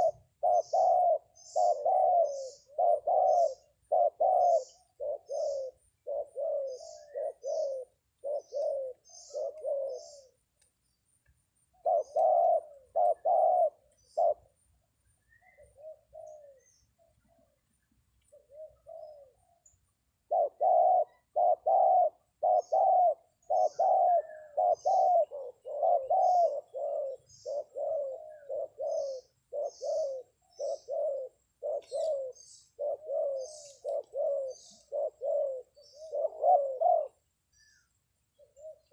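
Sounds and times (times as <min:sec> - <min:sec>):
dove cooing: 0:00.0 - 0:10.5, 0:11.7 - 0:38.9.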